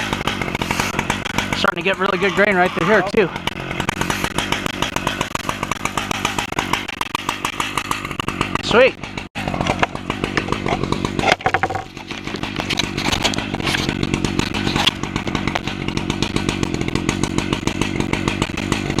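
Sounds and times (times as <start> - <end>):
chainsaw milling a log: 0.0 - 19.0.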